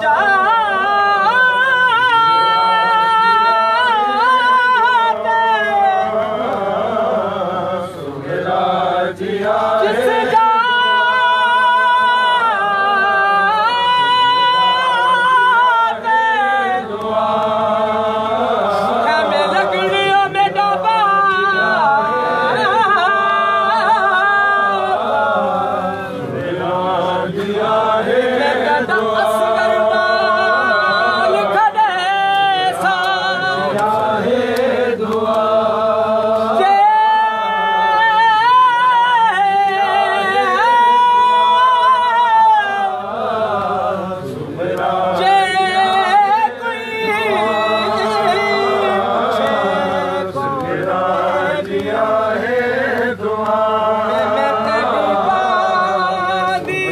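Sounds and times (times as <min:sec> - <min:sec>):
voices chanting a mourning lament: 0:00.0 - 0:56.9.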